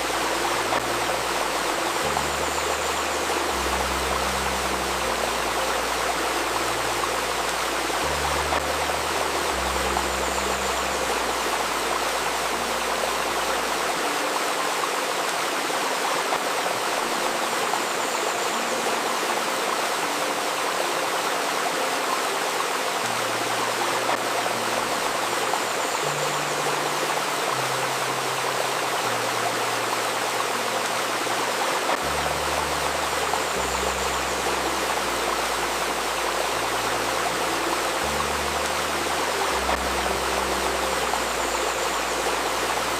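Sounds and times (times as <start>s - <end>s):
soft low sustained tones: 0.0s - 15.1s, 23.1s - 42.9s
river stream babbling: 0.0s - 42.9s.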